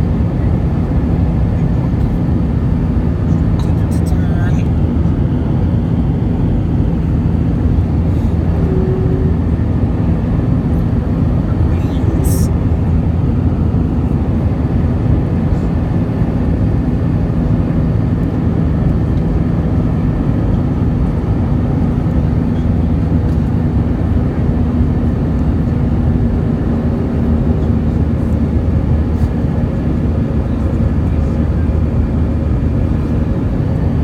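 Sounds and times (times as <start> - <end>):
jet engine rumble: 0.0 - 34.0.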